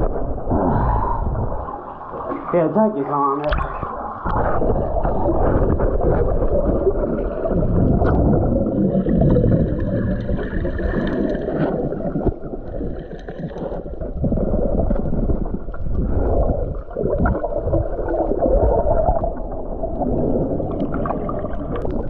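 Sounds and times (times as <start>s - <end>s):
seawater surging underwater: 0.0s - 22.0s.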